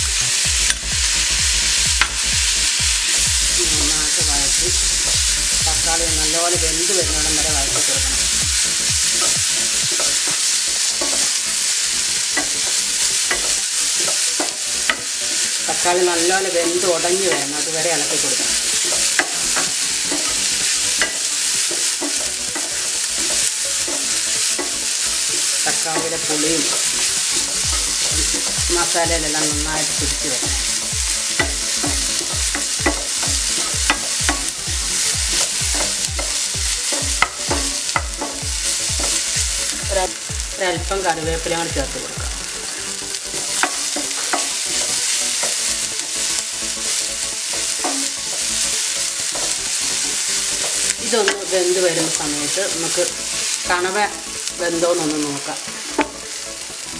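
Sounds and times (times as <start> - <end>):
vegetables sizzling in oil: 0.0 - 56.9
wooden spatula scraping pan: 2.6 - 56.2.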